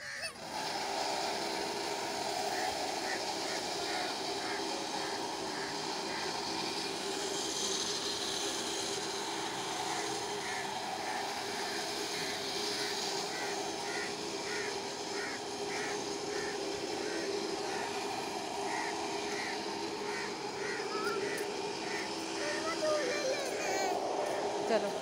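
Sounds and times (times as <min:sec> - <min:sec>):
outdoor background hum: 0:00.0 - 0:25.0.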